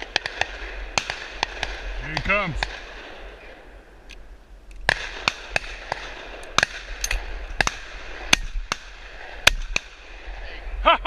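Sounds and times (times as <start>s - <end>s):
shotguns firing: 0.0s - 3.8s, 4.8s - 10.3s.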